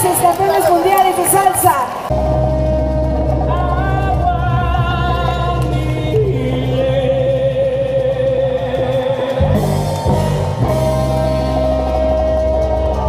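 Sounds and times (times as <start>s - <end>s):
low musical accompaniment: 2.1s - 13.0s.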